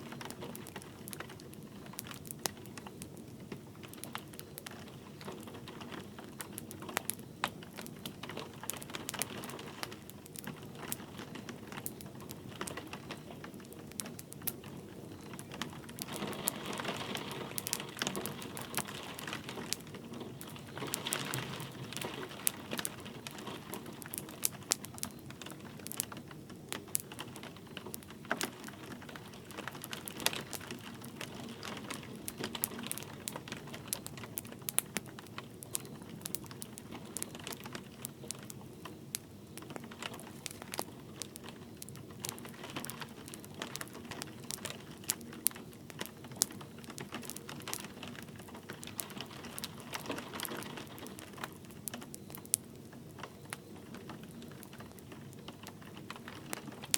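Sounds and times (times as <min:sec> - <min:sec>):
light rain hissing: 0:00.0 - 0:56.9
wood fire crackling: 0:00.0 - 0:56.9.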